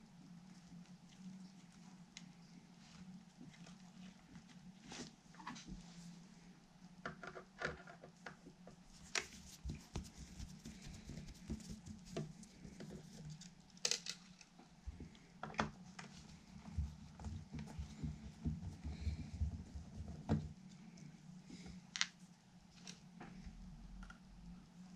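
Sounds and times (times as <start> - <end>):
faint low hum: 0.0 - 24.9.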